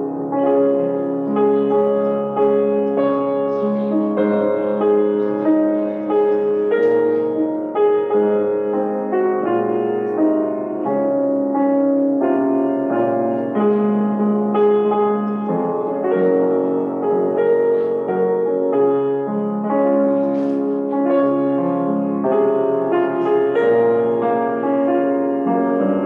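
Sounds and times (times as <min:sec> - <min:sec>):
slow keyboard chords: 0:00.0 - 0:26.0.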